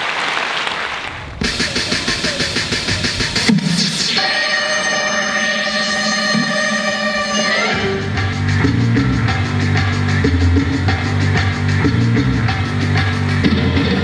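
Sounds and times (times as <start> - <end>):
rock-style dance music: 1.4 - 14.0.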